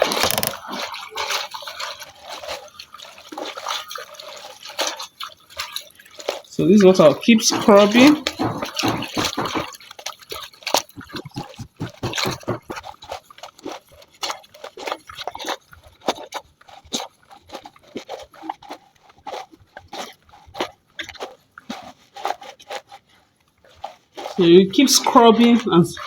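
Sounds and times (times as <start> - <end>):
hands squeezing wet leaves: 0.0 - 26.0.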